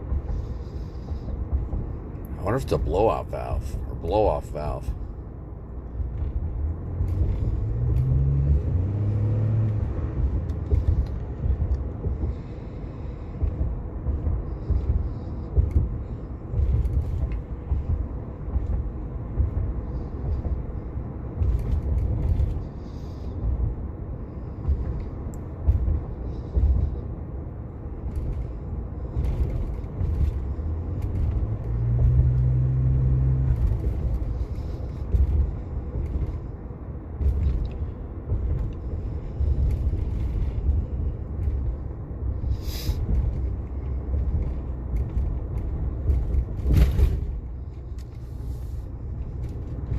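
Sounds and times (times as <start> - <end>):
pickup truck engine and road rumble: 0.0 - 49.9.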